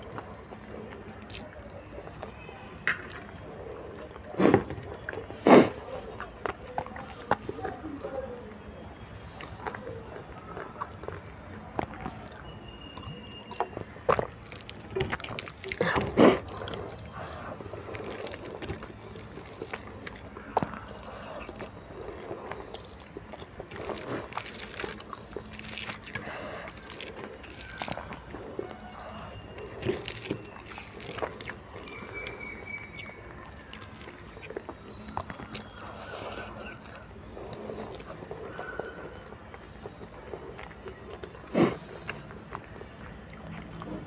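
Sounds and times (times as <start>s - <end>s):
wet chewing and mouth smacks: 0.0s - 8.1s, 9.2s - 44.0s.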